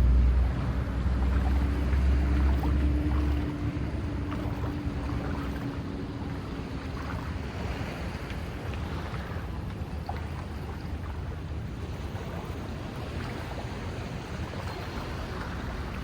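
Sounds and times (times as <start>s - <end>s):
motorboat engine humming: 0.0s - 16.0s
wind and sea hiss: 0.0s - 16.0s.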